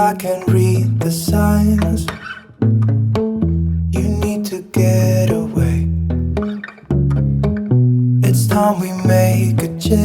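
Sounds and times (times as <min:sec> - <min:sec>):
pop song bass and guitar: 0:00.0 - 0:10.0.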